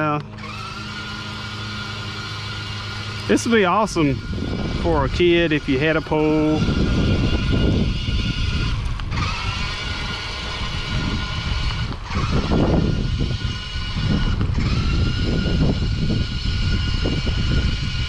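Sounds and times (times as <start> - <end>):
electric motors whining: 0.0 - 18.0
wind rumble on microphone: 2.2 - 18.0.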